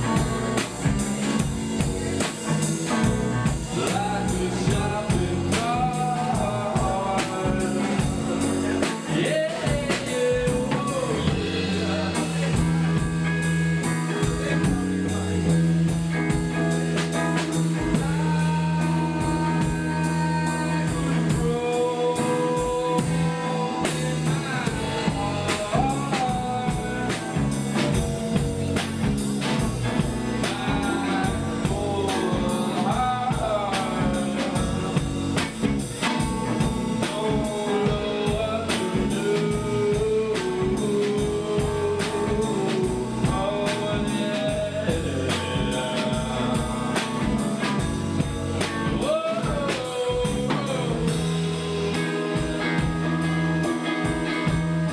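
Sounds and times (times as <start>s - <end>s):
drum kit beat: 0.0s - 54.9s
guitar: 0.0s - 54.9s
person singing: 0.0s - 54.9s.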